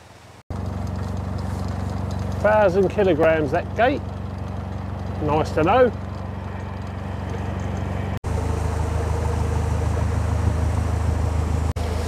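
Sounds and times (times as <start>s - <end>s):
diesel engine running: 0.5s - 12.0s.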